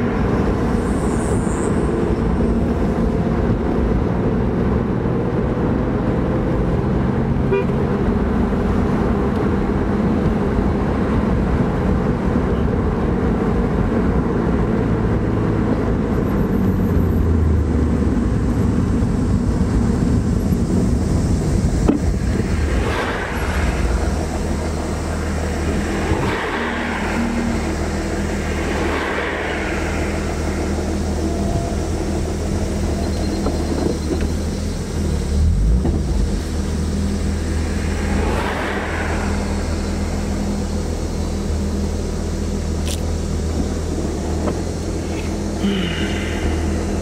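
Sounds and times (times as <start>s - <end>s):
car engine from inside cabin: 0.0s - 47.0s
road noise: 0.0s - 47.0s.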